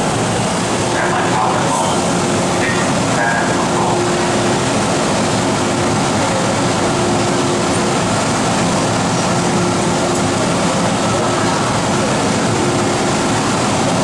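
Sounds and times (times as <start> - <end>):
station noise: 0.0 - 14.0
train equipment rushing: 0.0 - 14.0.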